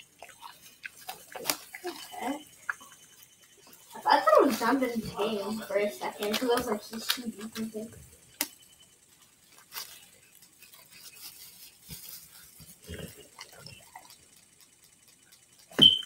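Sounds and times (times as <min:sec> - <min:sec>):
dog eating with wet smacking: 0:00.0 - 0:07.1, 0:10.0 - 0:15.8.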